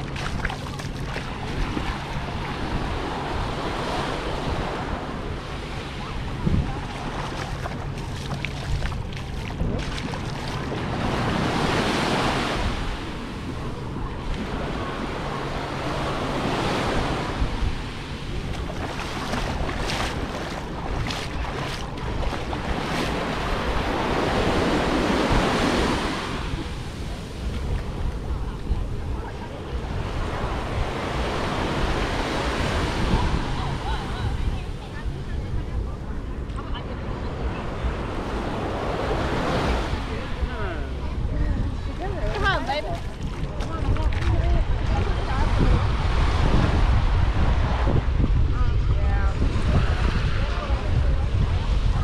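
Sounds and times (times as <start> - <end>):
sea waves breaking on beach: 0.0 - 48.1
wind buffeting microphone: 0.0 - 52.0.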